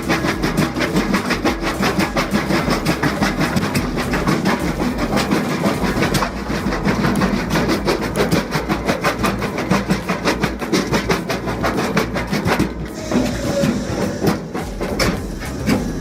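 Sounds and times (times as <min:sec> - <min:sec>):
heavy machine clattering: 0:00.0 - 0:16.0.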